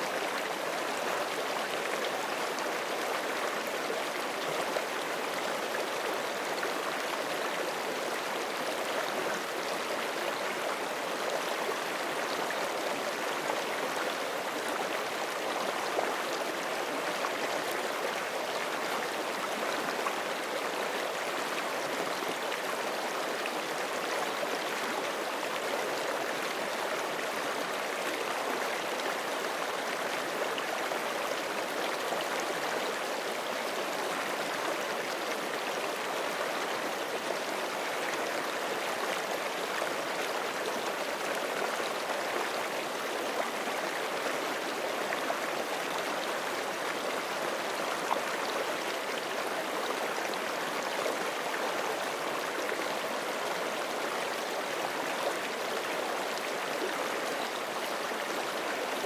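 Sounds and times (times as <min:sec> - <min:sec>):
creek flowing over rocks: 0:00.0 - 0:59.0.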